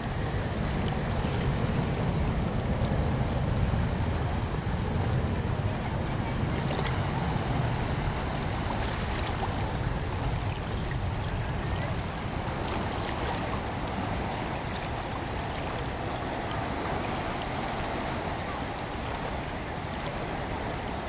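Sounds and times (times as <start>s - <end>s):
steady low rumble: 0.0s - 19.5s
waves splashing among rocks: 0.0s - 21.0s.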